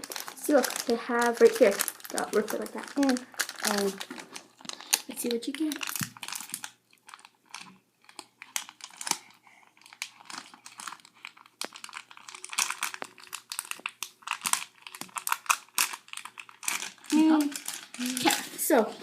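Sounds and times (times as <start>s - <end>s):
plastic packet crinkling: 0.0s - 19.0s.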